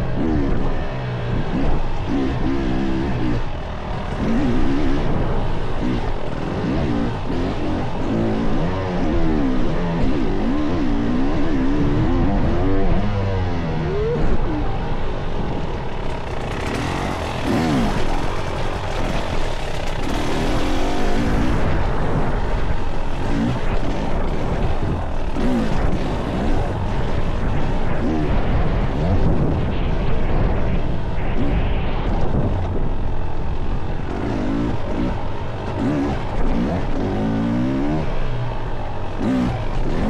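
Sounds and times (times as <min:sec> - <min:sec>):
dirt bike engine revving: 0:00.0 - 0:40.0
steady rushing noise: 0:00.0 - 0:40.0.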